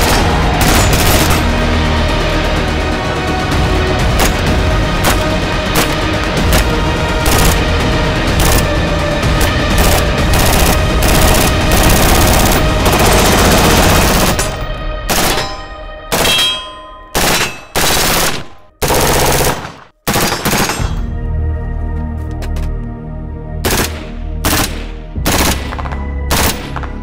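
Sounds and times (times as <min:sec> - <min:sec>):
background music: 0:00.0 - 0:27.0.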